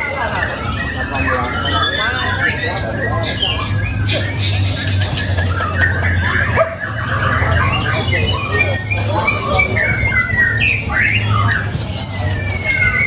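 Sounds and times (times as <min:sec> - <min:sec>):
birds singing whistled phrases: 0:00.0 - 0:13.0.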